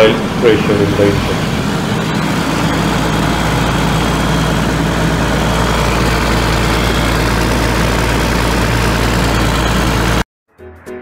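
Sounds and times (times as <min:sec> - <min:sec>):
diesel engine running: 0:00.0 - 0:10.2.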